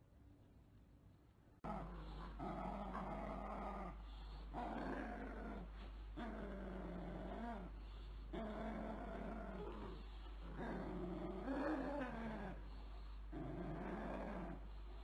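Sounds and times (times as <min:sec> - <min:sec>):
dog growling in play: 0:01.6 - 0:15.0.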